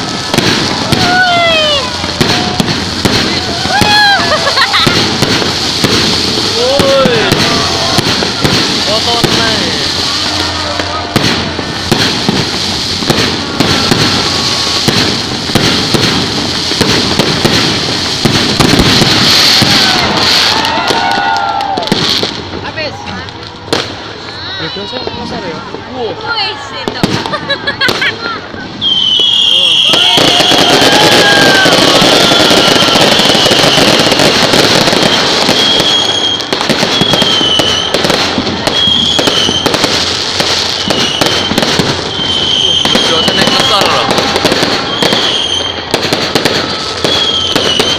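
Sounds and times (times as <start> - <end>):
fireworks bangs and pops: 0.0 - 47.9
fireworks crackling: 0.0 - 47.9.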